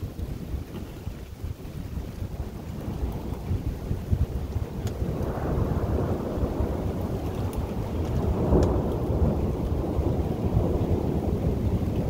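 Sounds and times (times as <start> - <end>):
wind buffeting microphone: 0.0 - 12.0
rolling thunder: 1.5 - 12.0.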